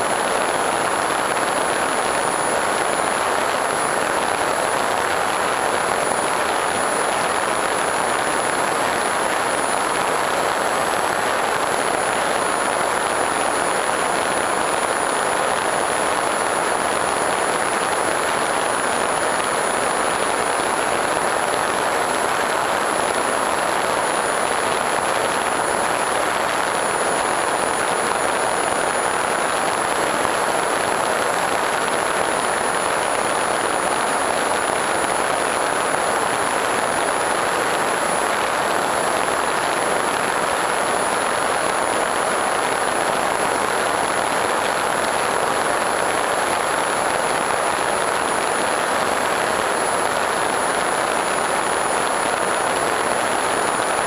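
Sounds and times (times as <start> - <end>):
thin high whine: 0.0 - 54.0.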